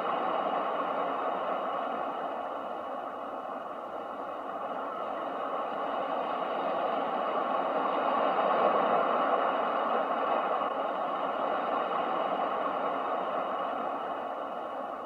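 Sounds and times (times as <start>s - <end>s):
ocean surf: 0.0s - 15.0s.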